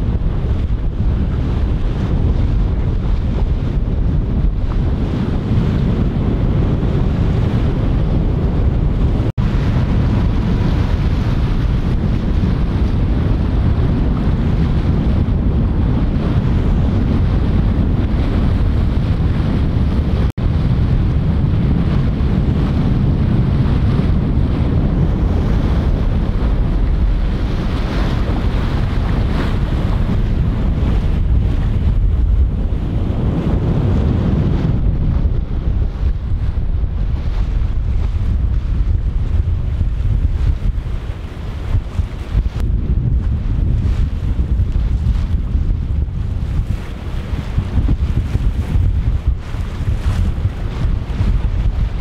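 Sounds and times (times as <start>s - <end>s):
water rushing past a boat: 0.0s - 52.0s
wind buffeting the microphone: 0.0s - 52.0s.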